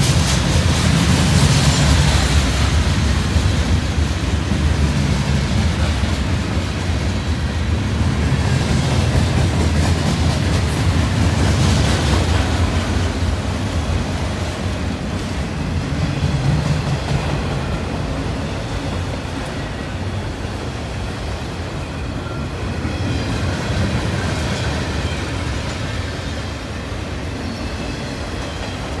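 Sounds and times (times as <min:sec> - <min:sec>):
freight train cars rumbling: 0:00.0 - 0:29.0.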